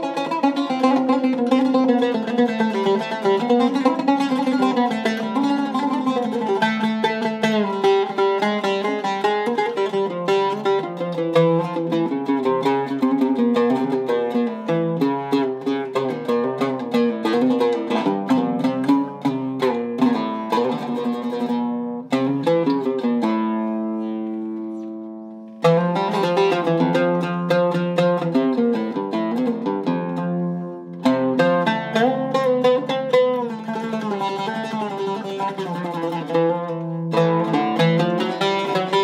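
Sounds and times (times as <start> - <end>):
oud plucked notes: 0.0 - 39.0.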